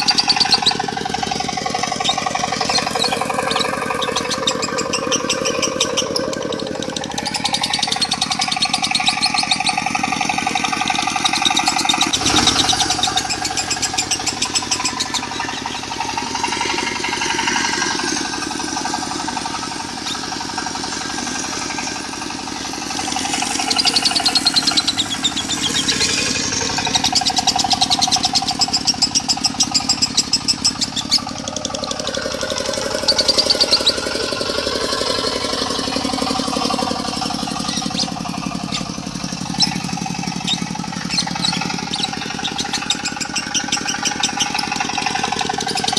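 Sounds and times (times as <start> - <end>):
diesel engine puttering: 0.0 - 45.9
lovebirds chattering: 0.0 - 45.9.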